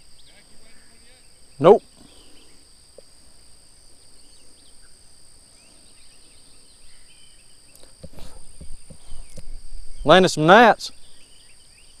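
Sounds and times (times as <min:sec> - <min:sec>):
faint bird chirps: 0:00.0 - 0:12.0
insects droning: 0:00.0 - 0:12.0.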